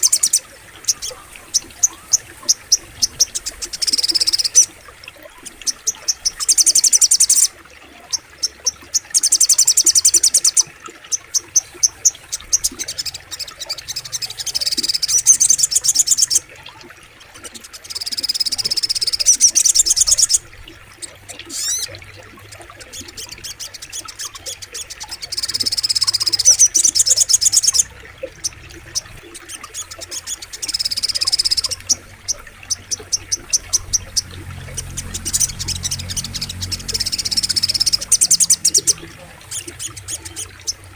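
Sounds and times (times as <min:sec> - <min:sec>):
bird chirping trills: 0:00.0 - 0:40.9.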